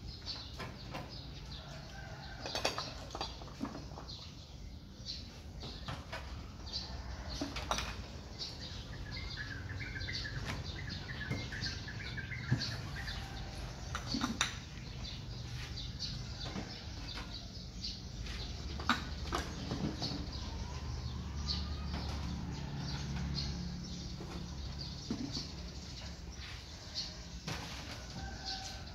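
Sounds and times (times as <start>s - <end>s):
bird chirping: 3.6s - 27.6s.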